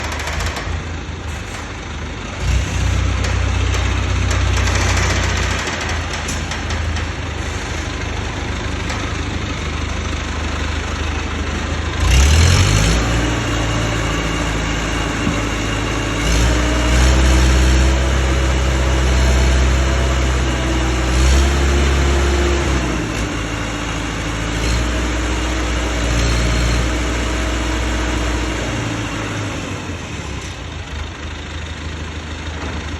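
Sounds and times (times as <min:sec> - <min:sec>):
heavy diesel engine revving: 0:00.0 - 0:31.7.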